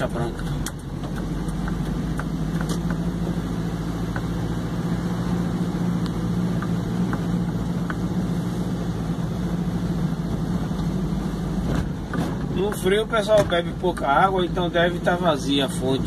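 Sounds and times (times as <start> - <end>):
road noise on wet road: 0.0 - 16.0
vehicle engine hum: 0.0 - 16.0.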